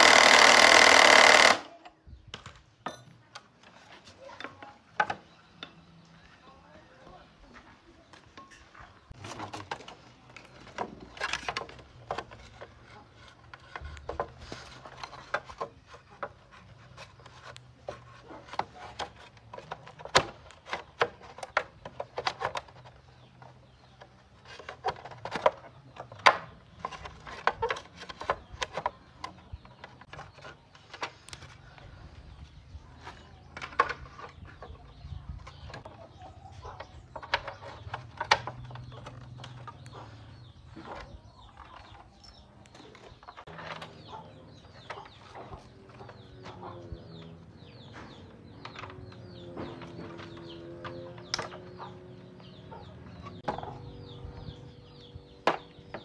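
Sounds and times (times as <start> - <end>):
knocks clicks and scraping: 8.1 - 56.0.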